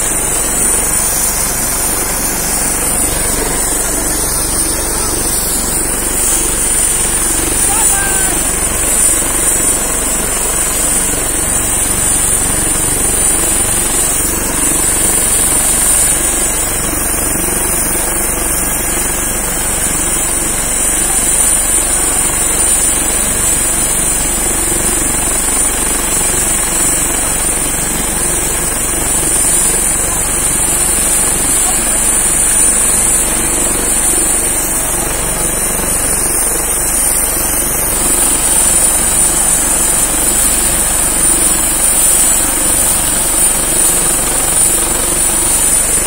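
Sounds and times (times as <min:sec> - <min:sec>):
helicopter turbine whine: 0:00.0 - 0:46.0
pulsing rotor rumble: 0:00.0 - 0:46.0.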